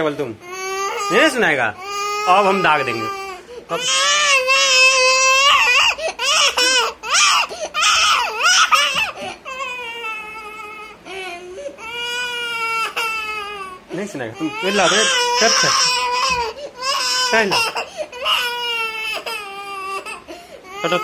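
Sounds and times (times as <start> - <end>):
young boy crying: 0.4 - 21.0.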